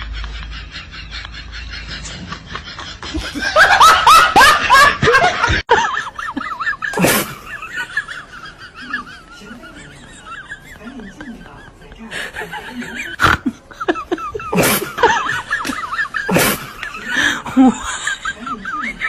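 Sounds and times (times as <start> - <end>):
loud laughter: 0.0 - 19.0.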